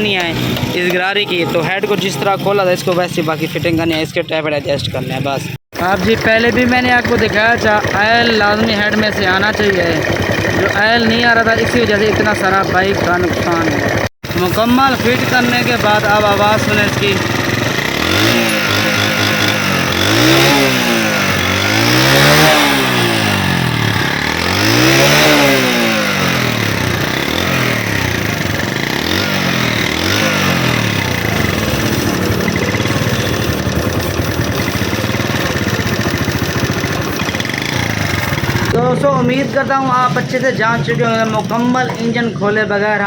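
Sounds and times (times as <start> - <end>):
motorcycle engine revving and idling: 0.0 - 43.0.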